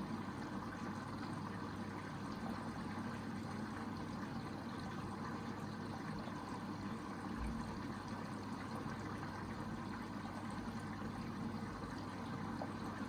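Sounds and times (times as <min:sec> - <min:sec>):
low machine hum: 0:00.0 - 0:13.0
water filling washing machine: 0:00.0 - 0:13.0.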